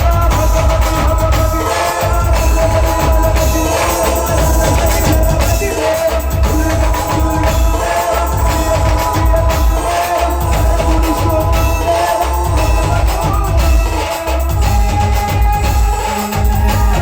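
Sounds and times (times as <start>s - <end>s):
drums beat: 0.0s - 17.0s
jingling percussion: 0.0s - 17.0s.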